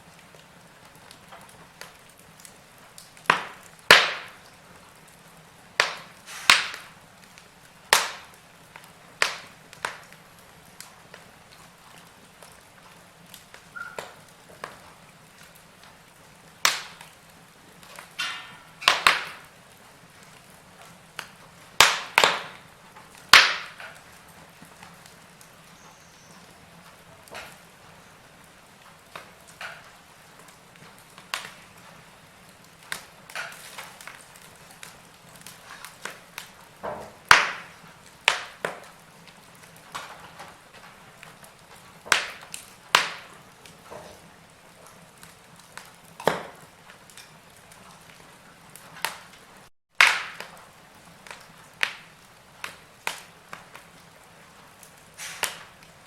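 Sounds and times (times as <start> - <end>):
fire hissing: 0.0 - 49.7, 50.4 - 56.0
burning logs popping: 0.0 - 56.0.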